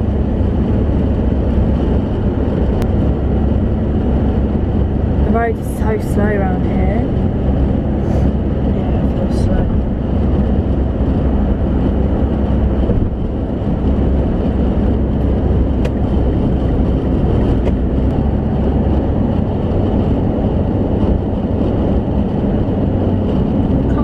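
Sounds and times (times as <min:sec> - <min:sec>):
car cabin road and engine noise: 0:00.0 - 0:24.0.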